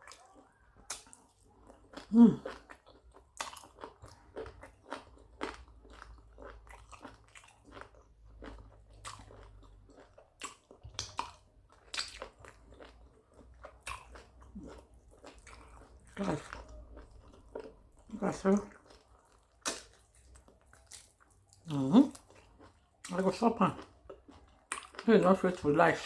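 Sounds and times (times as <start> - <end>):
person chewing and smacking: 0.0 - 26.0.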